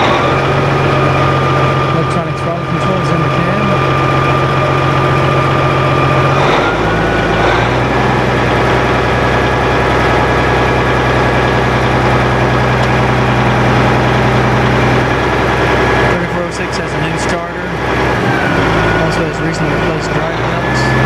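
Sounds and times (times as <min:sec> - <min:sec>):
diesel engine running under load: 0:00.0 - 0:21.0
high rising whine: 0:00.0 - 0:21.0.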